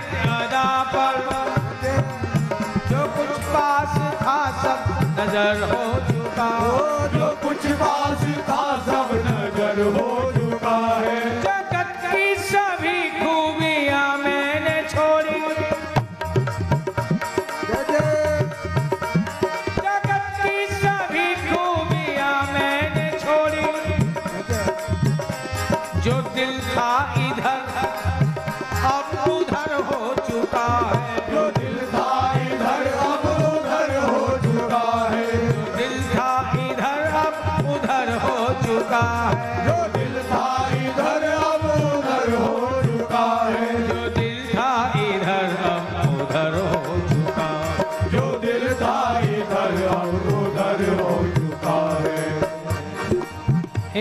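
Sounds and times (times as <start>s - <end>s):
man singing devotional song: 0.0s - 54.0s.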